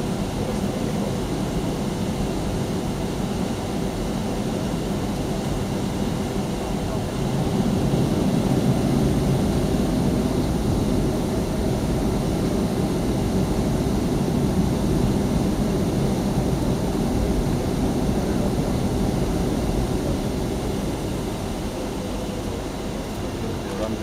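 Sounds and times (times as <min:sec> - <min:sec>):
jet engines roaring in cabin: 0:00.0 - 0:24.0.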